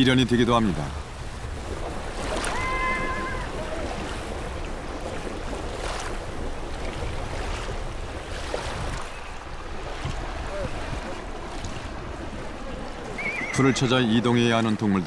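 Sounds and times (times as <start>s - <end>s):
flowing river water: 0.0s - 15.0s
low wind rumble: 0.0s - 15.0s.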